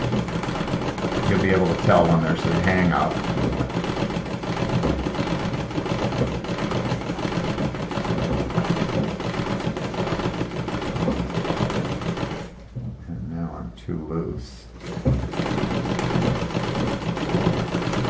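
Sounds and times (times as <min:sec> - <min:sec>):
sewing machine clattering: 0:00.0 - 0:12.7, 0:14.8 - 0:18.0.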